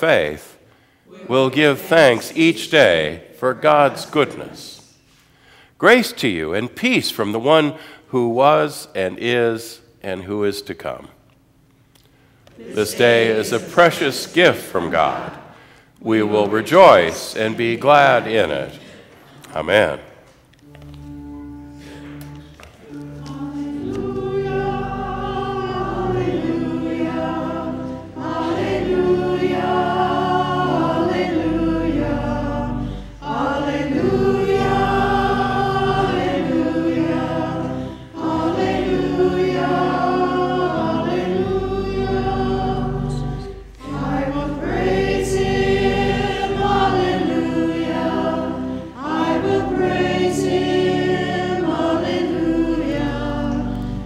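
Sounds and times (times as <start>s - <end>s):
church choir singing: 0.0s - 5.2s, 12.5s - 20.1s, 20.9s - 54.0s.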